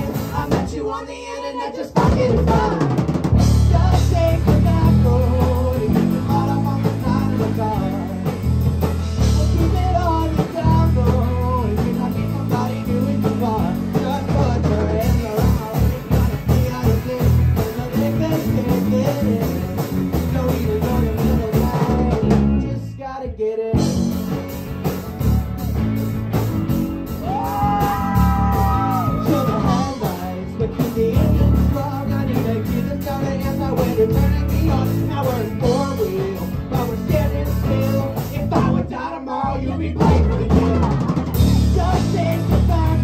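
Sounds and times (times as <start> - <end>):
person singing: 0.0 - 8.4, 9.2 - 24.0, 27.2 - 43.0
bass: 0.0 - 43.0
drums: 0.0 - 43.0
electric guitar: 2.0 - 43.0.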